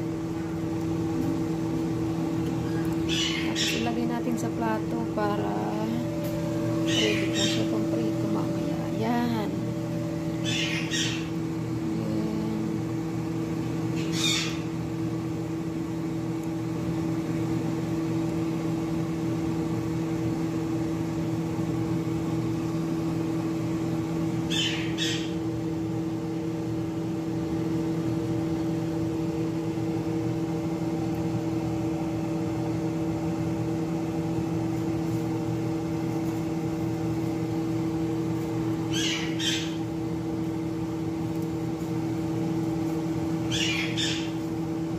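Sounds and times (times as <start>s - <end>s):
machine hum with held tones: 0.0s - 44.9s.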